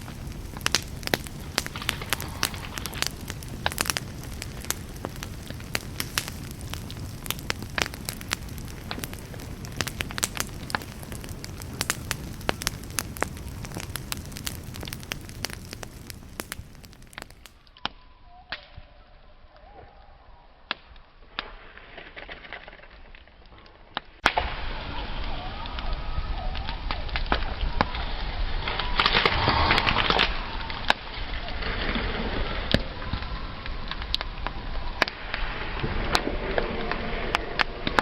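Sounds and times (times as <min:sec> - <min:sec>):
low fire rumble: 0:00.0 - 0:17.8, 0:22.9 - 0:38.0
campfire crackling and popping: 0:00.0 - 0:18.9, 0:20.6 - 0:38.0.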